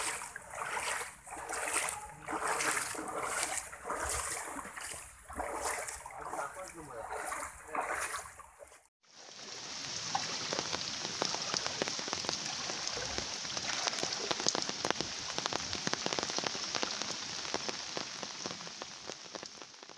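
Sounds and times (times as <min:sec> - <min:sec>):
rain falling on water: 0:00.0 - 0:08.4, 0:09.0 - 0:19.9.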